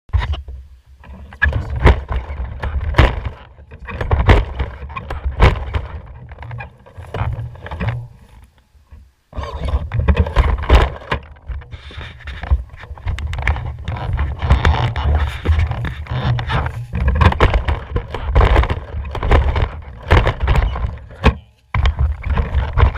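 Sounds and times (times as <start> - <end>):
chassis knocks and rattles: 0.1 - 8.4, 9.5 - 22.9
rc buggy rumbling: 0.1 - 22.9.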